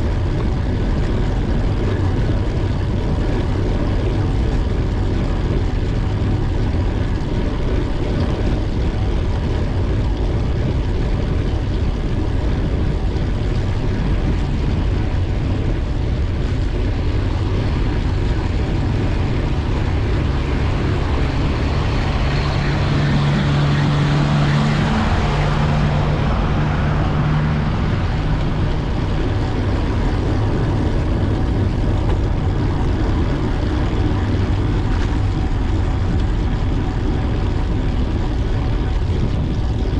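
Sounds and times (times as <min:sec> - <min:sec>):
passing vehicle engine hum: 0:00.0 - 0:39.9
wind rush on microphone: 0:00.0 - 0:39.9.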